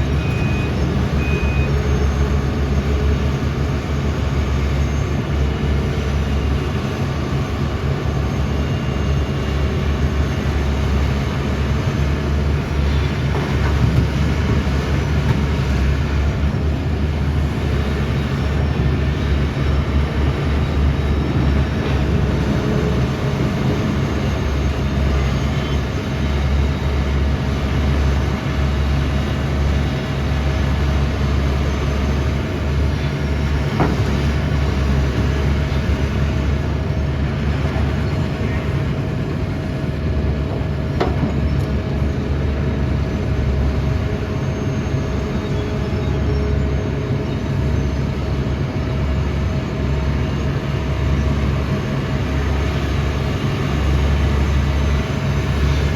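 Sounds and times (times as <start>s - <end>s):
excavator diesel engine drone: 0.0s - 55.9s.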